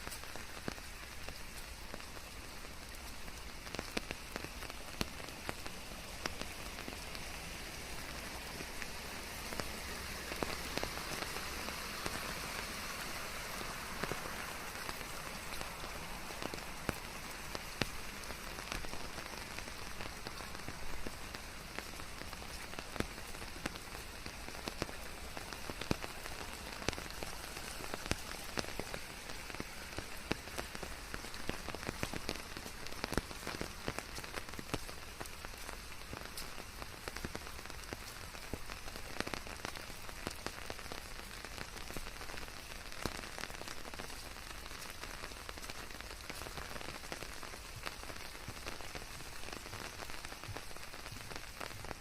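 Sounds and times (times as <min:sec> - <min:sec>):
raindrops tapping: 0:00.0 - 0:52.0
steady rainfall hiss: 0:00.0 - 0:52.0.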